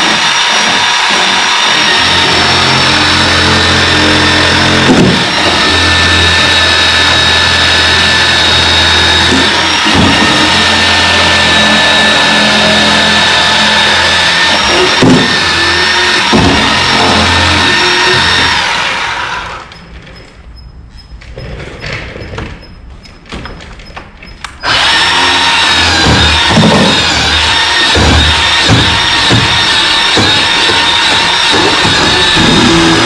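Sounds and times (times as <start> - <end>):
chainsaw cutting wood: 0.0 - 19.6, 24.6 - 33.0.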